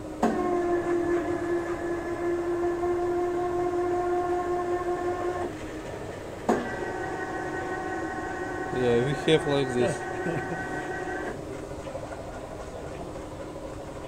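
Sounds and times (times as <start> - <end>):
electric motor whining hum: 0.0 - 14.0.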